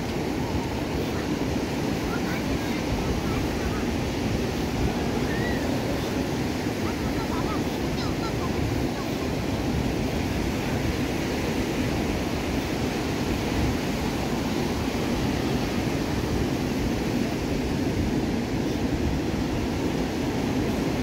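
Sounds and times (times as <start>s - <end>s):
ocean surf breaking: 0.0s - 21.0s
wind noise on microphone: 0.0s - 21.0s.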